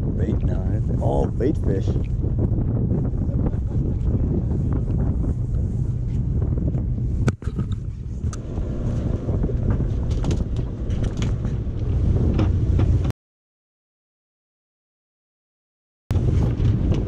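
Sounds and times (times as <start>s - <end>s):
wind buffeting microphone: 0.0s - 13.1s, 16.1s - 17.0s.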